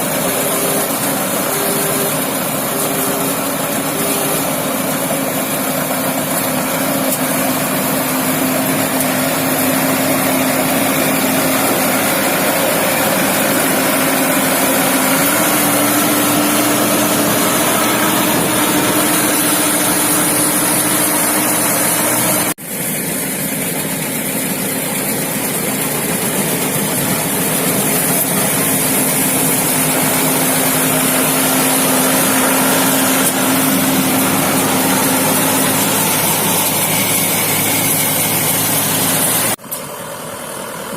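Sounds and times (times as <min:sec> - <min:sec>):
farm machine engine running: 0:00.0 - 0:40.9.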